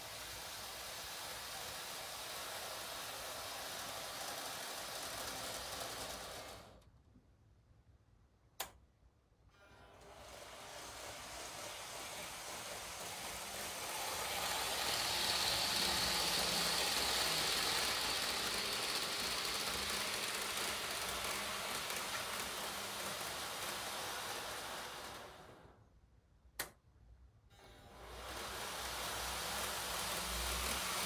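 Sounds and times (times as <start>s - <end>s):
model train rolling whir: 0.0s - 6.9s, 9.6s - 25.9s, 27.5s - 31.0s.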